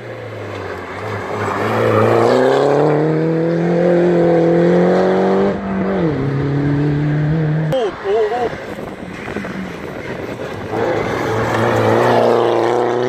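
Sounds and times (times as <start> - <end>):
car engine accelerating hard: 0.4 - 13.0.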